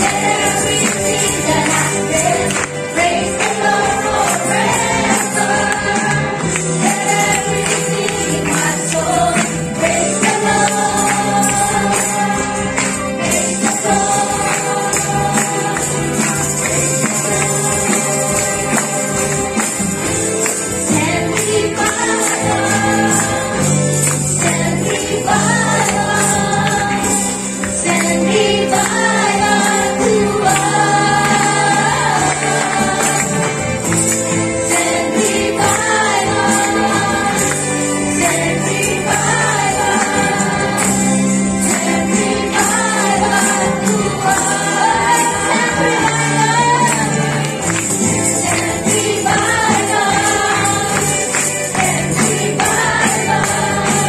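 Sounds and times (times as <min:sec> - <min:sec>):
gospel choir singing with band: 0:00.0 - 0:54.0
tambourines jingling: 0:00.0 - 0:54.0.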